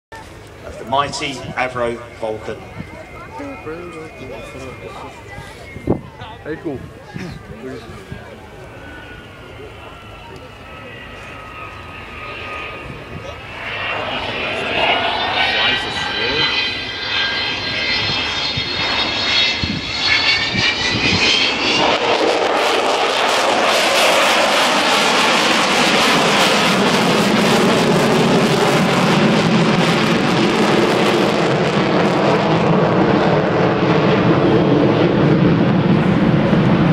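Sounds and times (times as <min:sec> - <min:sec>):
jet engines roaring overhead: 0:00.1 - 0:36.9.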